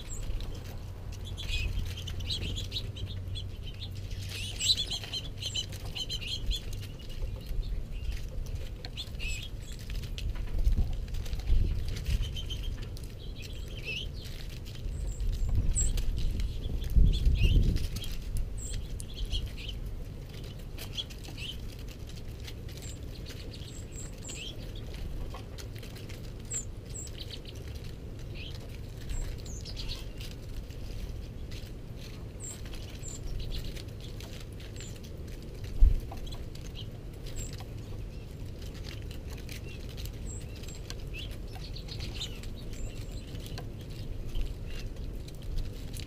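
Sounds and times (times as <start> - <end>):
birds pecking seed: 0.0 - 46.0
small birds chirping: 0.0 - 46.0.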